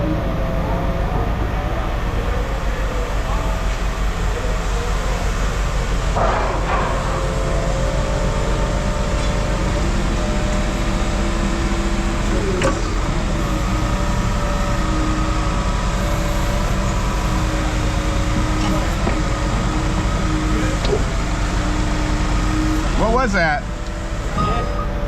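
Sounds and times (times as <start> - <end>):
engine droning with whine: 0.0 - 25.0.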